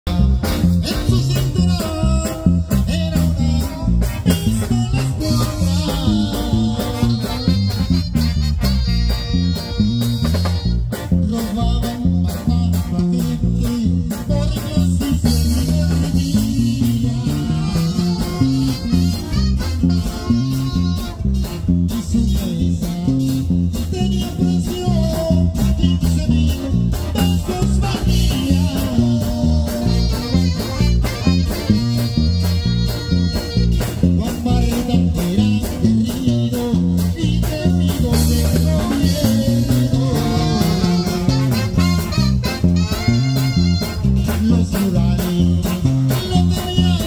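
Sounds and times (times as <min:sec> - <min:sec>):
driving bass beat: 0:00.0 - 0:47.0
guitar: 0:00.0 - 0:47.0
brass: 0:00.1 - 0:47.0.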